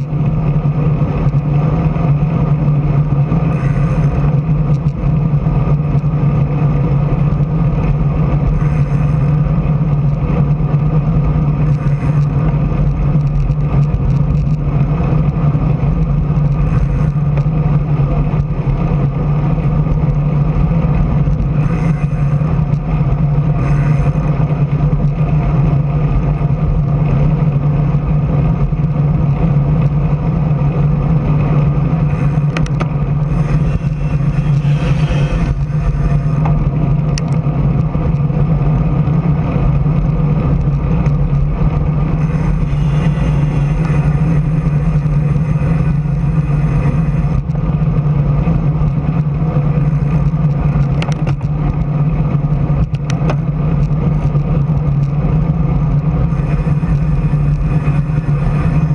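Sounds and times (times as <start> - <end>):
wind and road noise rumble: 0.0 - 58.9.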